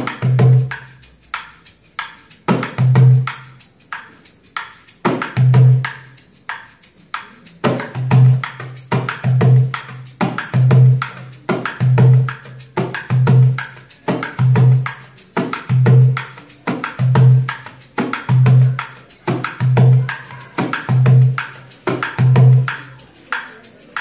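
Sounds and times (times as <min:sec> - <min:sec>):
darbuka drumming: 0:00.0 - 0:24.0
shaker rattles: 0:00.0 - 0:24.0.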